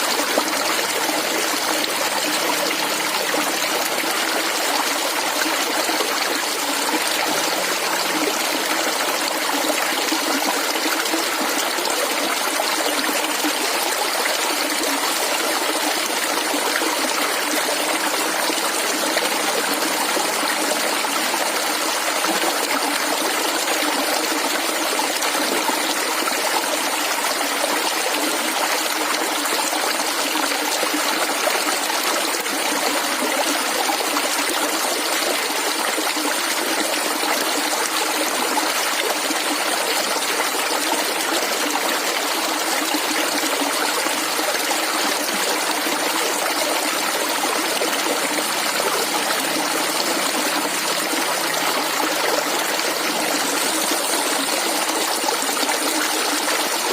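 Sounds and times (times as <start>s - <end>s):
stream gurgling over stones: 0.0s - 56.9s.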